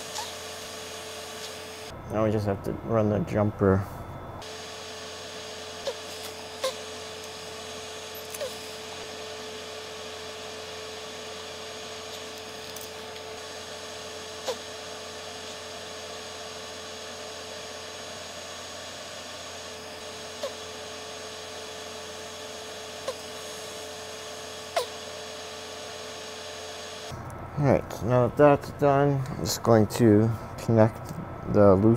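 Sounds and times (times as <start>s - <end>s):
equipment hum and hiss: 0.0s - 31.9s.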